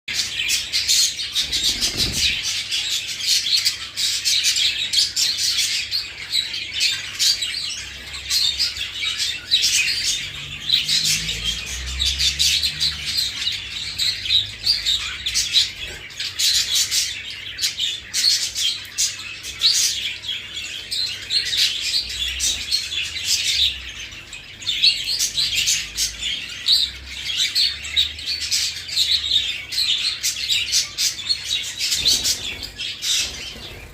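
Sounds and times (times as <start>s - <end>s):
budgerigars chirping and warbling: 0.1s - 33.9s.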